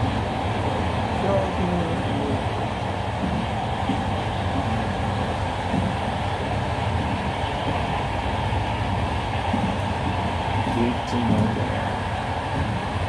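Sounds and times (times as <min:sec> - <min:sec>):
moving train rumbling: 0:00.0 - 0:13.0.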